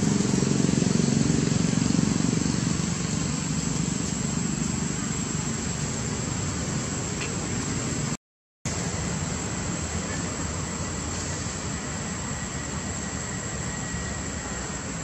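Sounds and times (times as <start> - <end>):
distant vehicle engine hum: 0.0 - 15.0
steady background hiss: 0.0 - 15.0.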